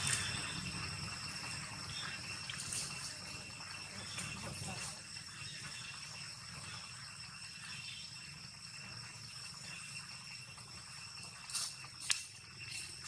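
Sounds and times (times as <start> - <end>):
faint outdoor ambience: 0.0 - 13.0
insects trilling: 0.0 - 13.0.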